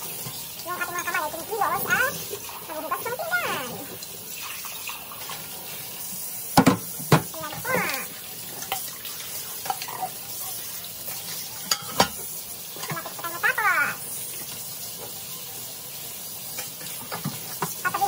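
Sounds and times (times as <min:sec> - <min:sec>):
tap water running onto dishes: 0:00.0 - 0:18.0.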